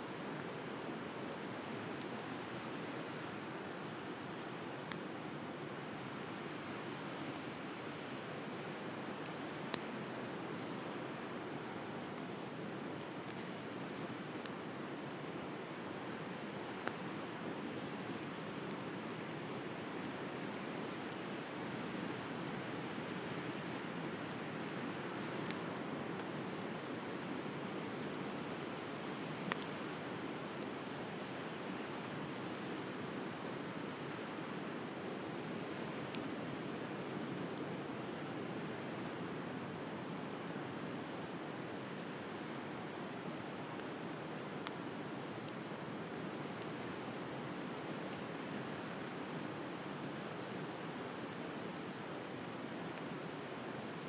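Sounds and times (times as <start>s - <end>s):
bonfire crackling: 0.1s - 54.0s.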